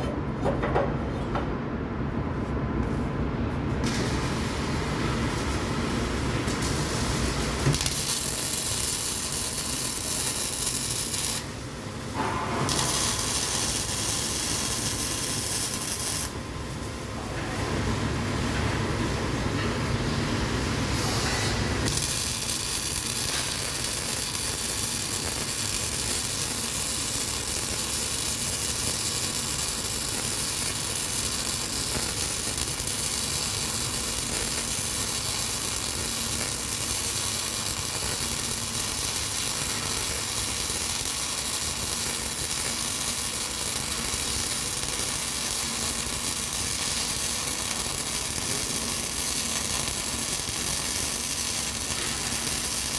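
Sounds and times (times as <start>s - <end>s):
welding arc hissing: 3.8s - 17.2s, 20.7s - 52.9s.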